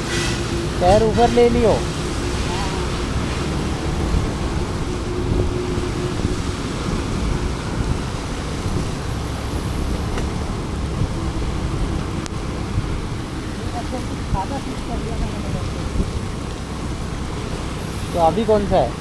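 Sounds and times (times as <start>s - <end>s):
road traffic noise: 0.0s - 19.0s
scooter engine hum: 0.0s - 19.0s.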